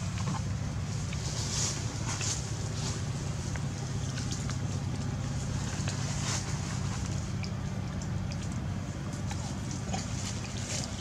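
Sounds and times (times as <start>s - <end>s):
faint ticks and rustles: 0.0s - 11.0s.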